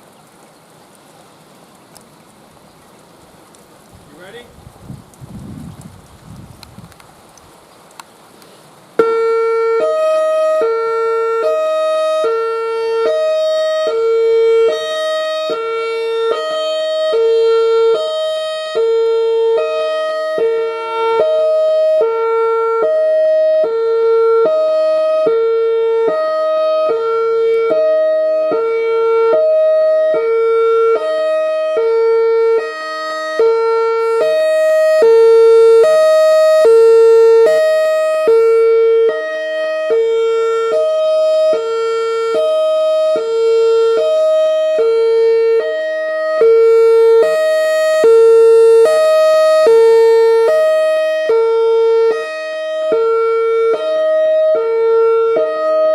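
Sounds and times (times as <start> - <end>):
hi-lo warning siren: 9.0 - 55.9.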